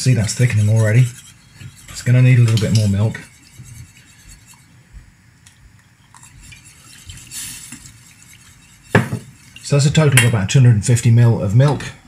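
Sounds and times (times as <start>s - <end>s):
whisk scraping and clinking pan: 0.0s - 4.7s, 6.1s - 11.1s.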